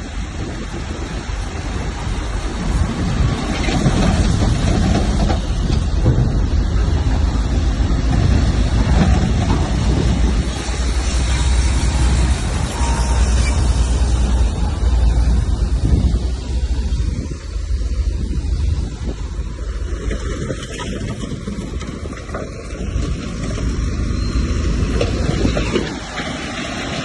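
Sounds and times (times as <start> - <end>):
heavy machinery engine rumble: 0.0 - 27.0
machinery clatter: 0.4 - 27.0.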